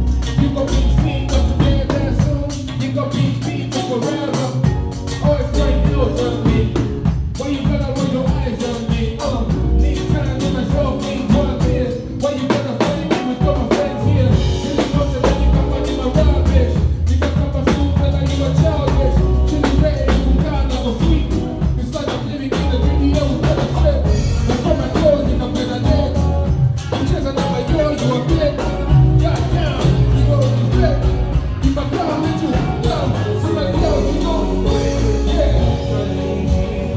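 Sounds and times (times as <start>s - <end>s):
song with drums and heavy bass: 0.0s - 36.9s.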